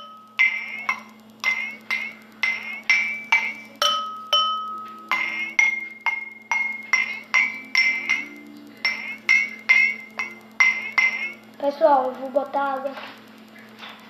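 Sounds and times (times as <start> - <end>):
water glasses struck ringing: 0.0 - 11.5.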